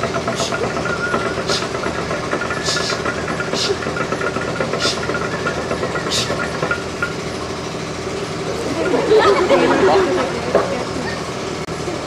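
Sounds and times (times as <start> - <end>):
machine droning: 0.0 - 12.0.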